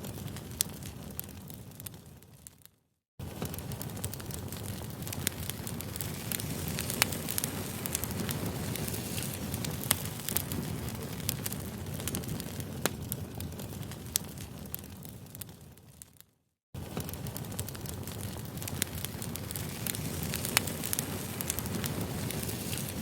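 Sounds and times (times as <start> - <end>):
burning wood popping: 0.0 - 16.2, 16.8 - 23.0
campfire crackling: 0.0 - 16.2, 16.8 - 23.0.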